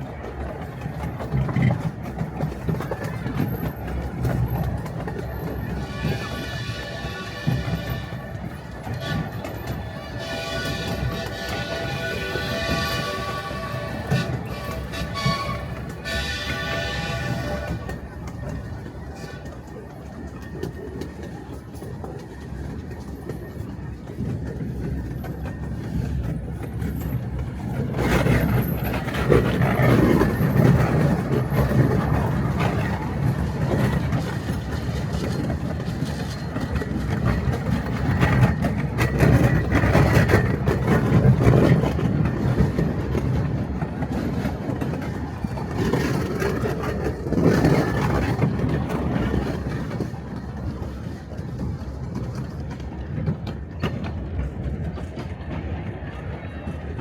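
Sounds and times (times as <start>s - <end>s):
miniature train rumbling on track: 0.0s - 57.0s
train wheels clattering: 0.0s - 57.0s.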